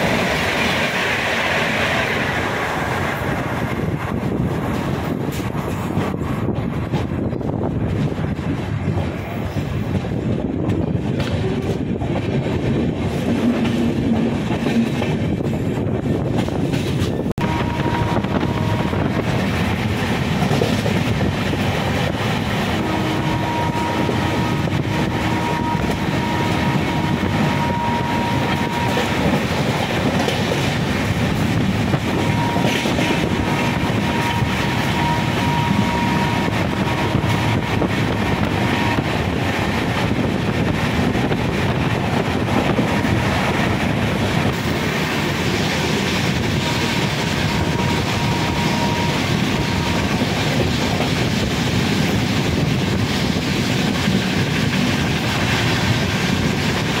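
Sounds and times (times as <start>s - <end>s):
train coaches rumbling and rattling: 0.0s - 57.0s.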